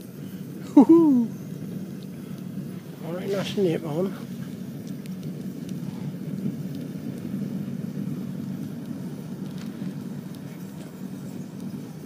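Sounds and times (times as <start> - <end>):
bonfire burning with low rumble: 0.0 - 12.0
fire crackling: 0.0 - 12.0.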